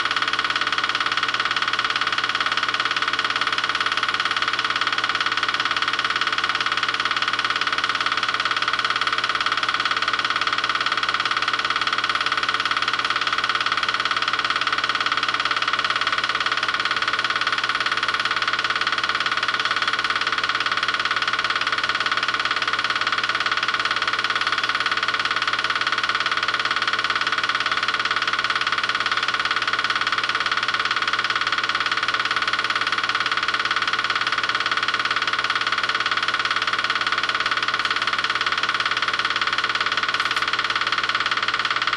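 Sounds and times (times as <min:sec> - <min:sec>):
film projector whirring: 0:00.0 - 0:41.9.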